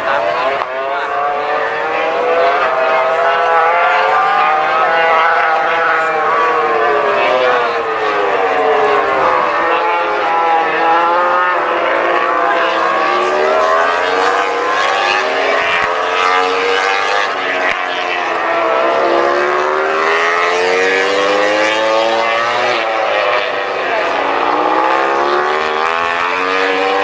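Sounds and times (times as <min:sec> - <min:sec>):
racing motorcycles passing: 0:00.0 - 0:27.0.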